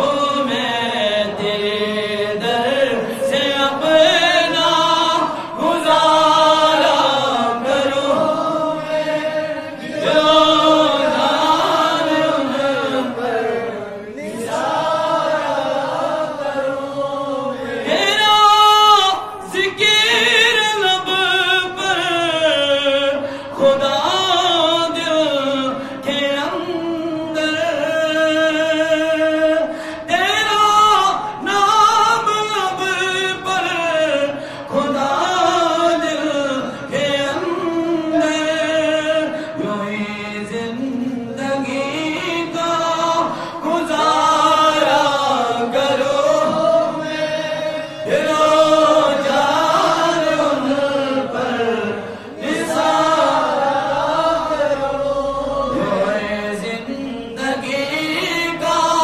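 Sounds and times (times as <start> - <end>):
man singing into microphone: 0.0 - 14.2, 16.6 - 59.0.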